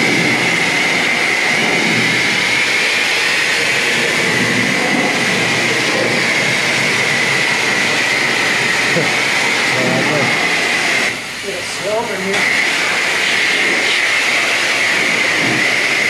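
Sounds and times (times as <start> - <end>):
pressure washer jet hissing: 0.0 - 16.0.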